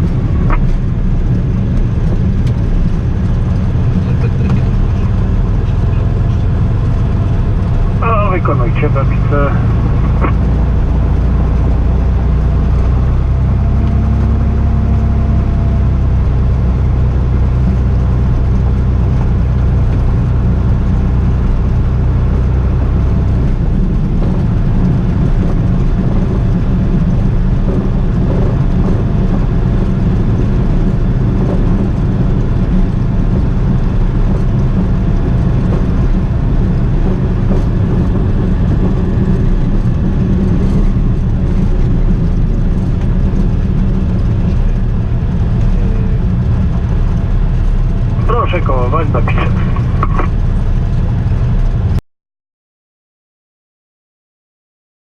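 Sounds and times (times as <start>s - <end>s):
plane engine and propeller: 0.0s - 52.0s.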